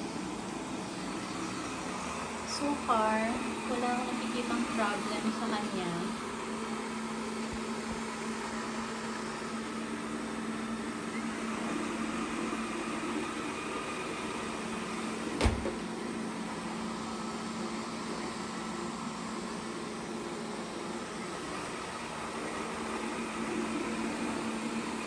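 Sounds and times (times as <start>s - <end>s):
robot vacuum whirring: 0.1s - 25.0s.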